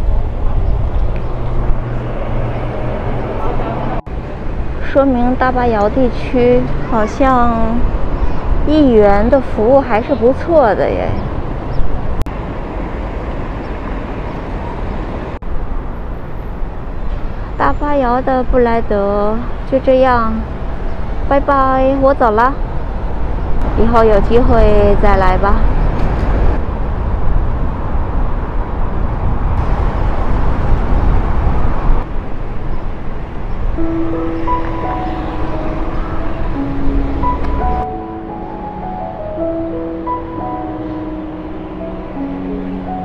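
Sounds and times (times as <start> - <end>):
street traffic hum: 0.0 - 43.0.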